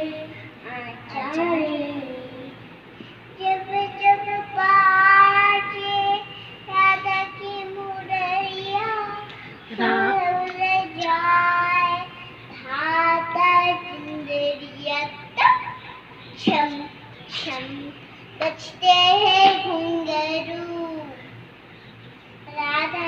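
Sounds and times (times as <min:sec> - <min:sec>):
girl singing into a microphone: 0:00.0 - 0:02.6, 0:03.4 - 0:15.2, 0:16.4 - 0:21.3.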